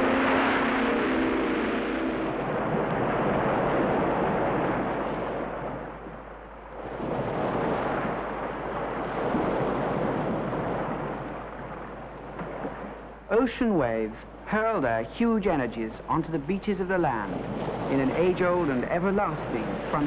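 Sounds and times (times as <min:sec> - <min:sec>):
ocean waves crashing: 0:00.0 - 0:20.0.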